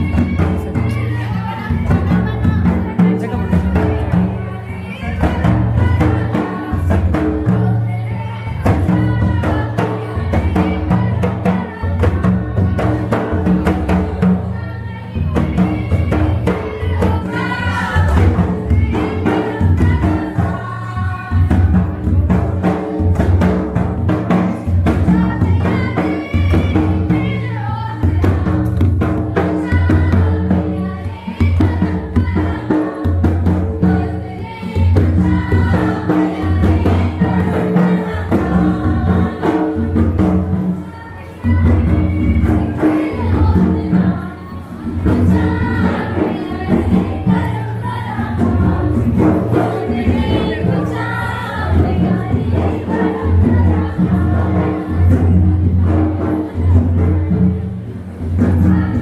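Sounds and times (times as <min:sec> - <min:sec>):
group singing: 0:00.0 - 0:59.0
repeating drum beat: 0:00.0 - 0:59.0.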